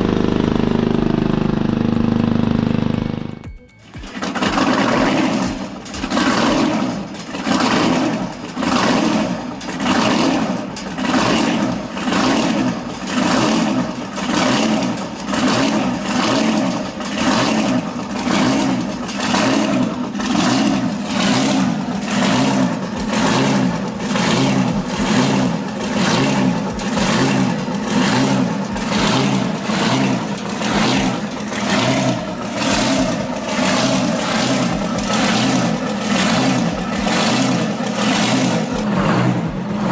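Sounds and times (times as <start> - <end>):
diesel tiller engine chugging: 0.0 - 39.9.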